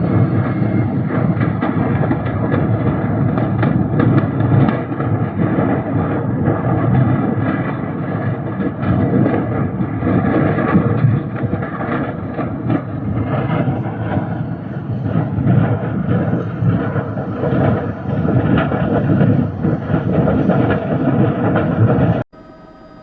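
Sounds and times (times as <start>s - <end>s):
loud steady rumbling: 0.0s - 23.0s.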